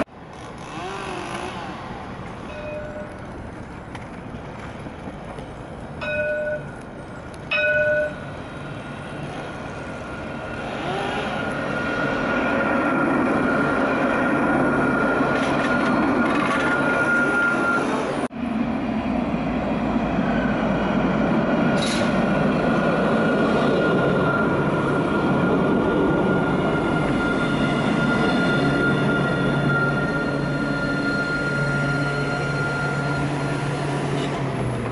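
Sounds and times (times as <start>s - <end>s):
tram passing: 1.3s - 34.9s.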